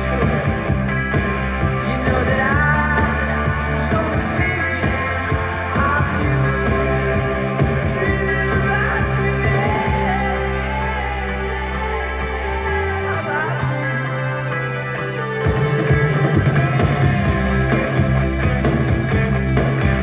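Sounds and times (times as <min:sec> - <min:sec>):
pop-rock song with singer: 0:00.0 - 0:20.0.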